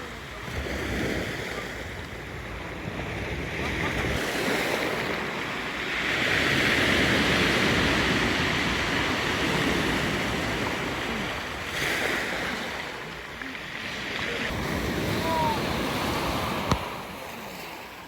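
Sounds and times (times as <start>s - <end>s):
surf breaking on beach: 0.0s - 18.0s.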